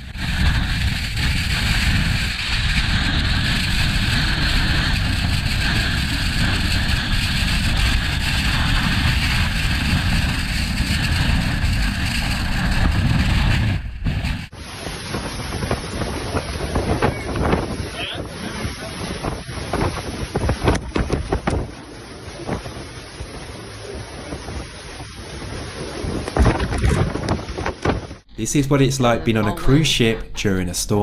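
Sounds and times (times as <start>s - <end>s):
wind buffeting microphone: 0.0s - 28.5s.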